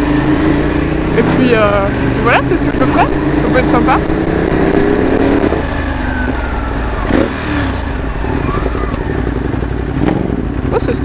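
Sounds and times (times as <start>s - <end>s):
motorcycle engine at low speed: 0.0s - 11.0s.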